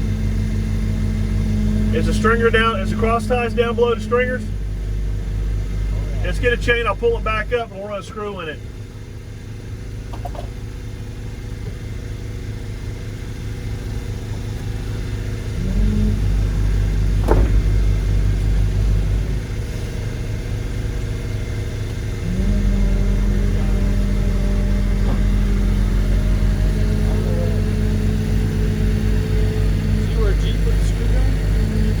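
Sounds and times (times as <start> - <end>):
heavy machinery engine revving: 0.0 - 32.0.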